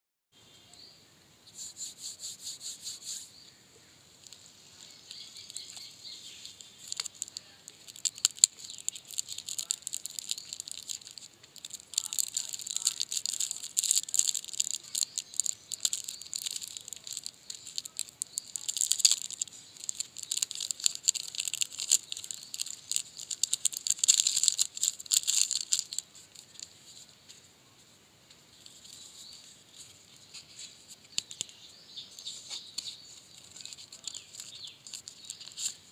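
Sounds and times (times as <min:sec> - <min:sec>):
plastic wrapper crinkling: 0:04.2 - 0:27.1, 0:28.6 - 0:35.9.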